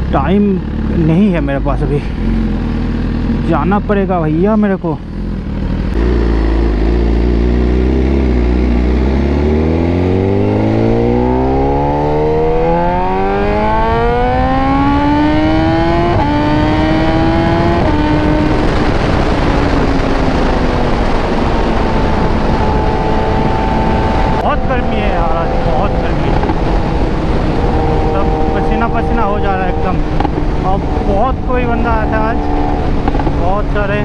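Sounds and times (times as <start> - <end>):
gear changes: 0.0 - 34.0
motorcycle engine accelerating: 0.0 - 34.0
wind rush: 5.8 - 34.0.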